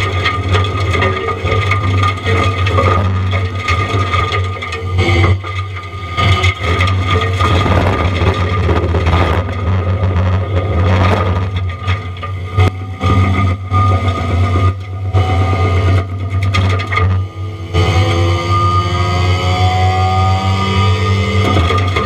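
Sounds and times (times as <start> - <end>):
mulcher head grinding wood: 0.0 - 18.8, 21.2 - 22.0
loader engine hum: 0.0 - 19.0
high whine: 0.0 - 20.3.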